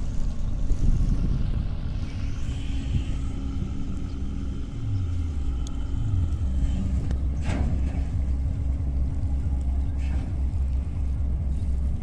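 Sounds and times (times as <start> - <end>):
ship diesel engine rumbling: 0.0 - 12.0.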